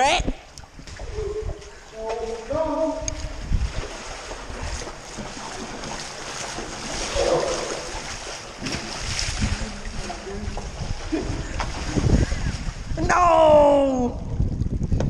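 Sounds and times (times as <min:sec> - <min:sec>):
wind buffeting microphone: 0:00.0 - 0:15.0
creek water flowing: 0:00.5 - 0:13.8.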